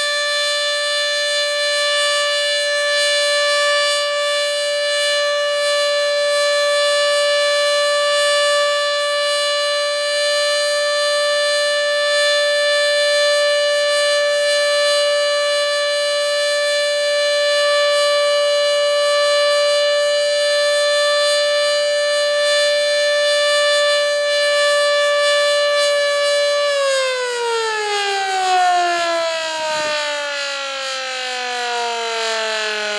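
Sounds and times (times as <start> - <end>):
warning siren steady tone: 0.0 - 32.9.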